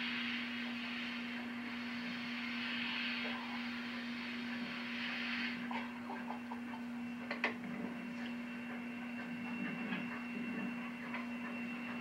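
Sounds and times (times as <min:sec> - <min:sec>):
electrical hum: 0:00.0 - 0:12.0
steam locomotive moving: 0:00.0 - 0:12.0.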